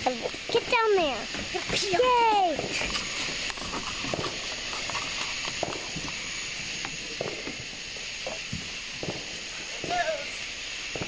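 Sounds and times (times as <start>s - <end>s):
firework crackles and pops: 0.0s - 11.0s
firework high-pitched hiss: 0.0s - 11.0s.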